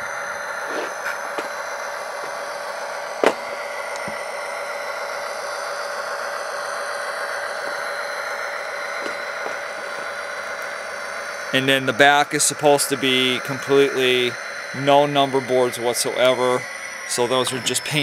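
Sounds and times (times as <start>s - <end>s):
diesel engine sound from speaker: 0.0s - 18.0s.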